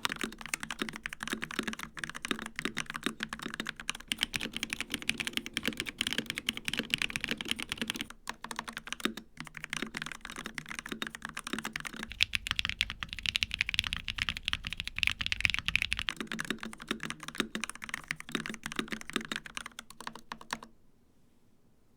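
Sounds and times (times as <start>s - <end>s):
fast typing on mechanical keyboard: 0.0s - 20.7s.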